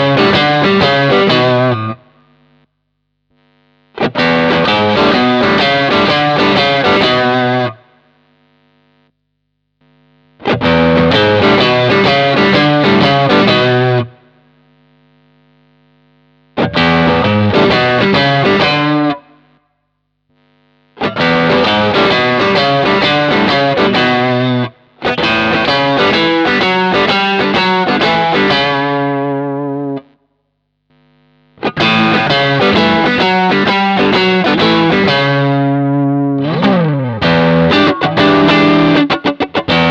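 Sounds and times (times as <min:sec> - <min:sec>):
distorted electric guitar riffs: 0:00.0 - 0:09.1, 0:09.8 - 0:39.9.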